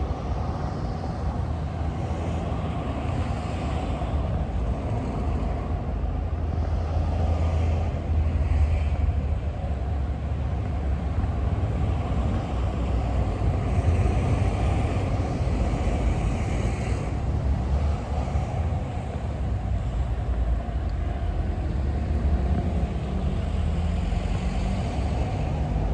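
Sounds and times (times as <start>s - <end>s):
low street rumble: 0.0s - 25.9s.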